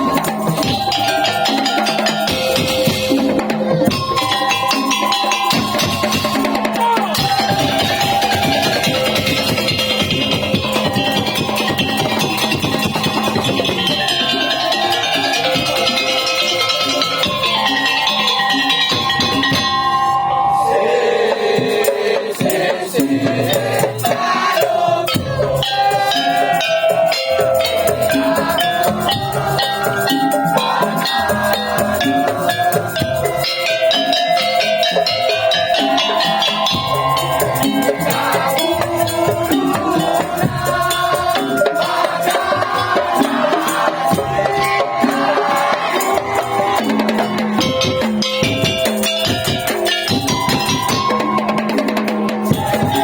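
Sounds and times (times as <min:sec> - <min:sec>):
slit drums and drums rhythm: 0:00.0 - 0:53.0
wavering pitched melody: 0:00.0 - 0:53.0.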